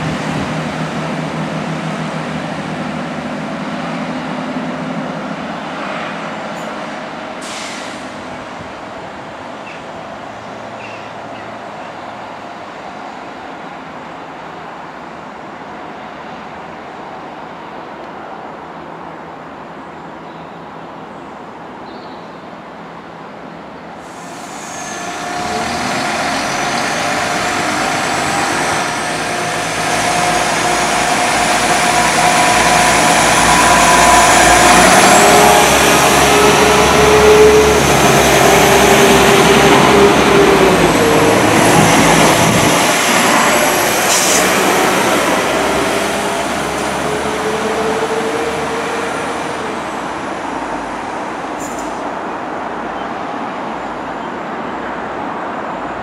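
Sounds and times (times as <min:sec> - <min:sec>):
diesel train passing: 0:00.0 - 0:21.8, 0:22.4 - 0:56.0.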